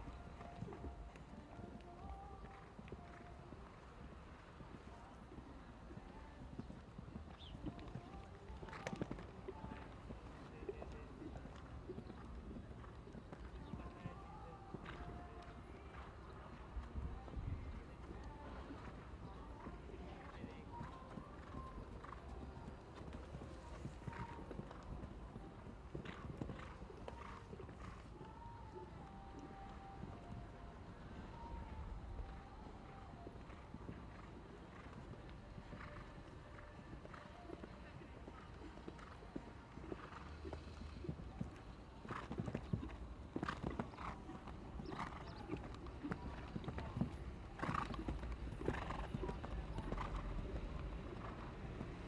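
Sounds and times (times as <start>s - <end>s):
horse hoofbeats on sand: 0.0s - 16.1s, 16.8s - 30.4s, 38.3s - 52.0s.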